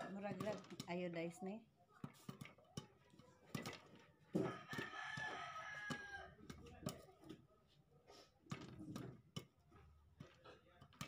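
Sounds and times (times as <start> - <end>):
popcorn popping in a pan: 0.0 - 7.5, 8.4 - 11.0.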